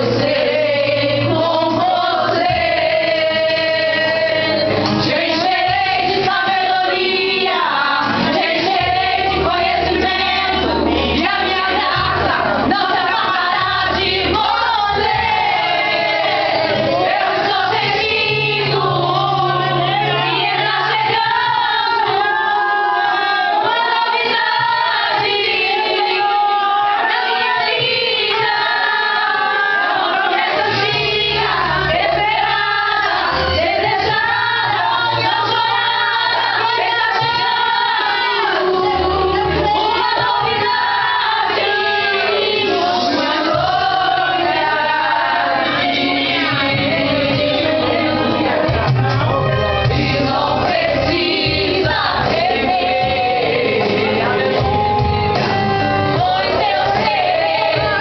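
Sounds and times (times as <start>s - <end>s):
voices singing together: 0.0s - 58.0s.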